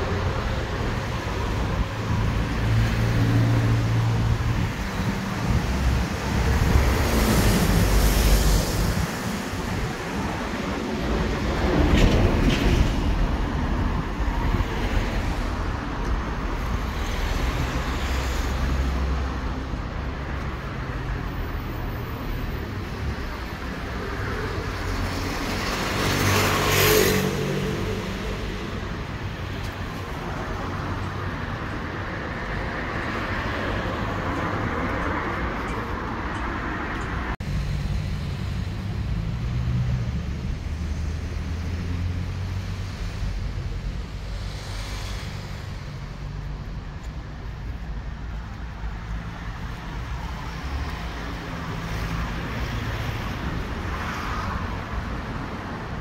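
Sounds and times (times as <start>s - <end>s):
cars driving past: 0.0s - 56.0s.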